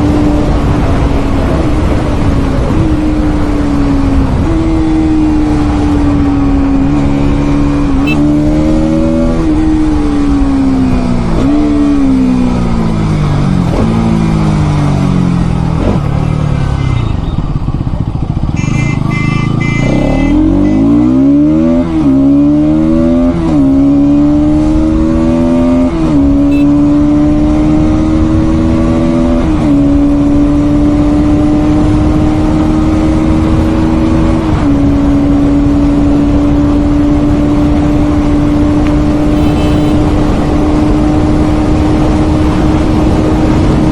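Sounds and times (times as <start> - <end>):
motorcycle engine: 0.0 - 43.9.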